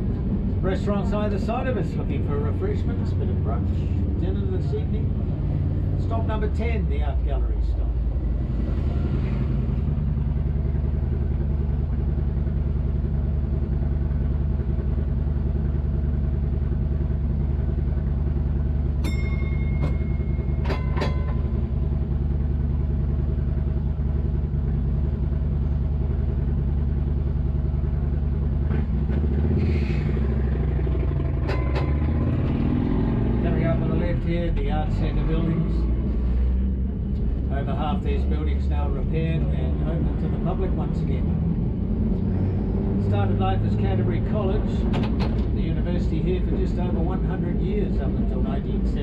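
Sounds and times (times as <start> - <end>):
tram equipment humming: 0.0 - 49.0.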